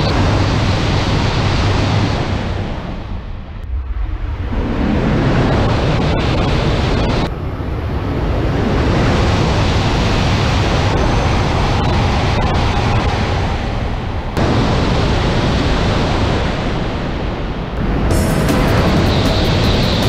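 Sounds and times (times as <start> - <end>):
trains passing at speed: 0.0 - 20.0.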